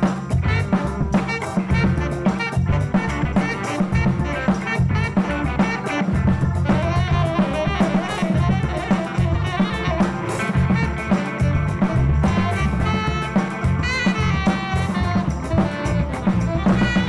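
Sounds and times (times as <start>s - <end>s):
drum kit steady beat: 0.0s - 17.0s
live jazz band playing: 0.0s - 17.0s
saxophone: 0.0s - 17.0s.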